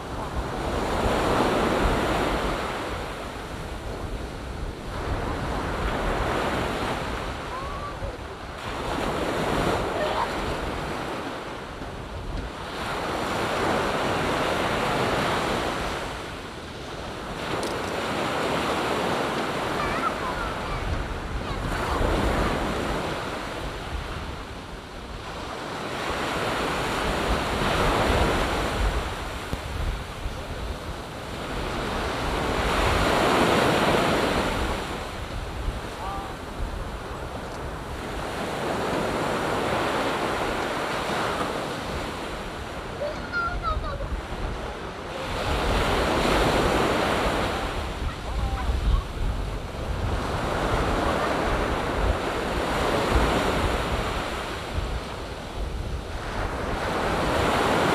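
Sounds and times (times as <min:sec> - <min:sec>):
small waves breaking on sand: 0:00.0 - 0:57.9.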